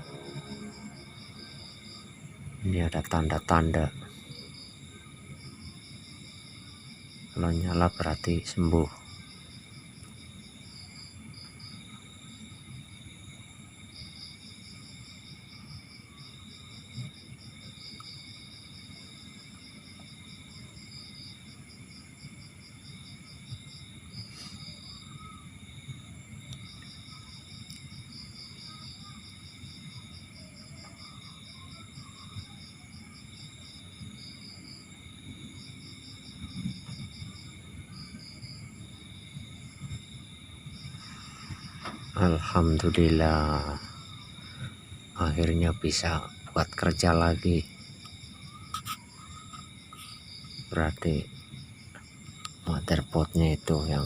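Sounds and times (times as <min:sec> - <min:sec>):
crickets chirping: 0:00.0 - 0:54.0
high insect drone: 0:00.0 - 0:54.0.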